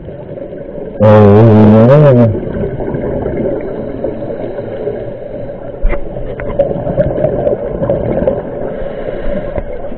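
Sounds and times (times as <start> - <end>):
underwater rushing: 0.0 - 9.9.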